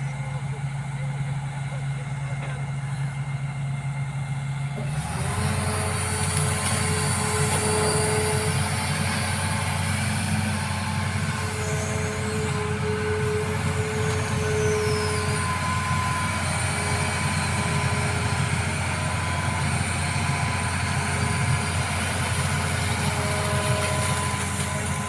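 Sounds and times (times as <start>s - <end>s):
diesel engine running: 0.0s - 25.0s
thin whine: 4.8s - 25.0s.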